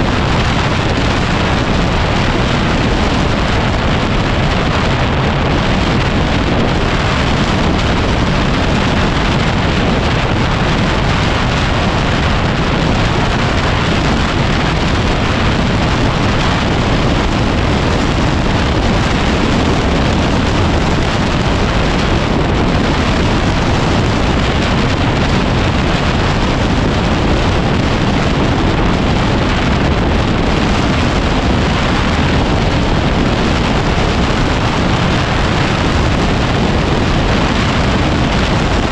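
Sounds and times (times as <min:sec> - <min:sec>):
motorcycle riding noise: 0:00.0 - 0:38.9
wind buffeting microphone: 0:00.0 - 0:38.9.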